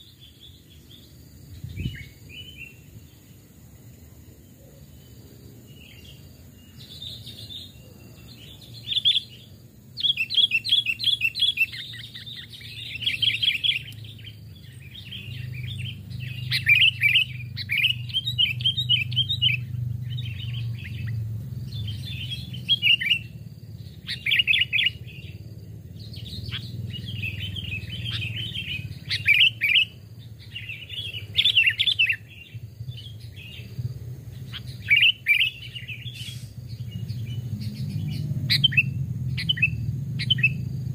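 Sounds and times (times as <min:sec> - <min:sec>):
bulbuls chirping: 0:00.0 - 0:40.9.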